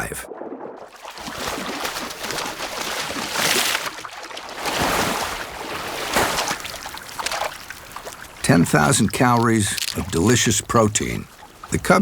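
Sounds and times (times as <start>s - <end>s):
river water sloshing and splashing: 0.9s - 12.0s.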